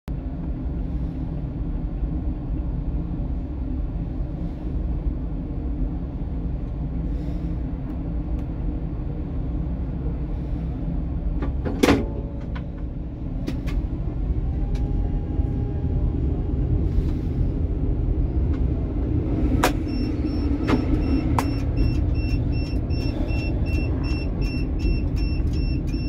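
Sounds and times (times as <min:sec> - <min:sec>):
tram cab rumble and hum: 0:00.1 - 0:26.0.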